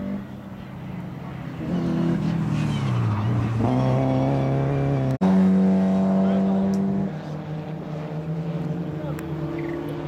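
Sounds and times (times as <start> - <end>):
car engine on track: 0.0 - 10.0.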